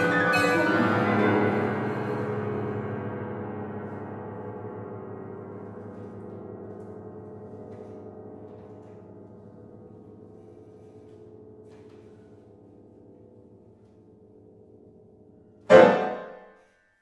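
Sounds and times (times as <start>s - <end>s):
low piano chord ringing: 0.0s - 16.6s.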